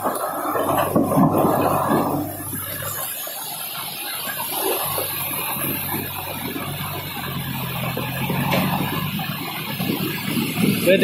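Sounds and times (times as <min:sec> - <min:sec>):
heavy machine engine humming: 0:00.0 - 0:11.0
rushing floodwater and rain: 0:00.0 - 0:11.0.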